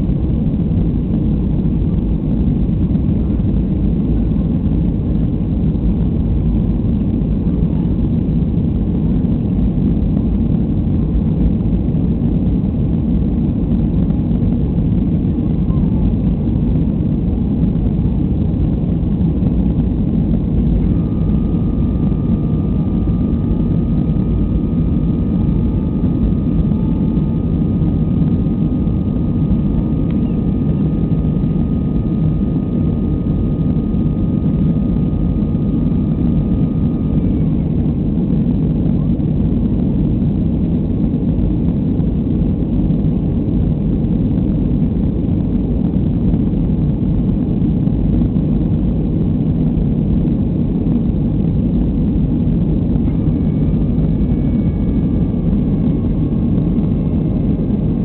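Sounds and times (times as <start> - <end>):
jet engine rush and airflow: 0.0 - 58.0
thin steady whine: 0.0 - 58.0.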